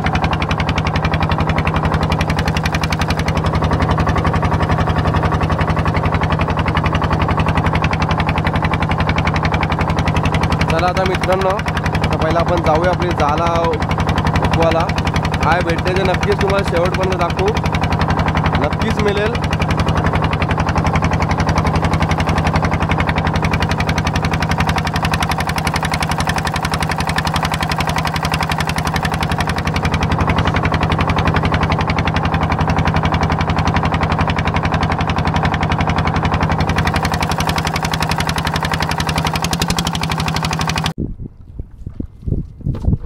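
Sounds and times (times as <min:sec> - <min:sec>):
boat engine running: 0:00.0 - 0:43.0.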